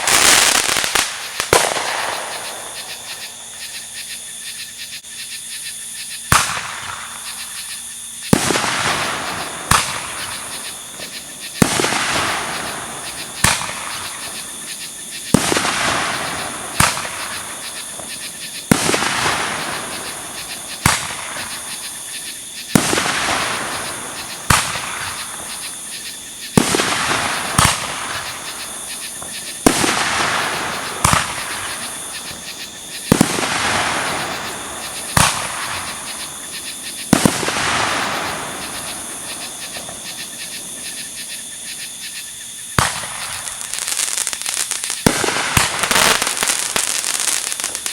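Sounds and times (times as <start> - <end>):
fireworks bangs: 0.0 - 3.8, 6.3 - 7.7, 8.3 - 41.2, 42.6 - 47.9
fireworks crackling hiss: 0.0 - 47.9.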